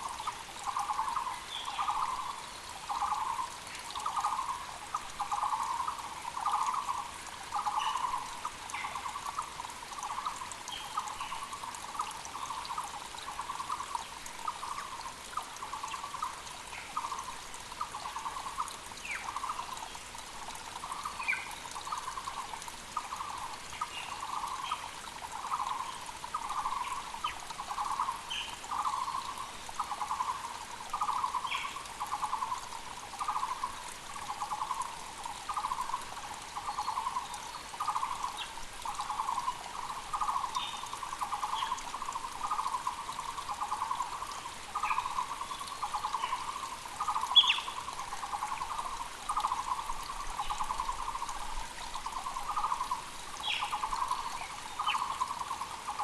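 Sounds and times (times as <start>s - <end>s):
faint rush of creek: 0.0s - 56.0s.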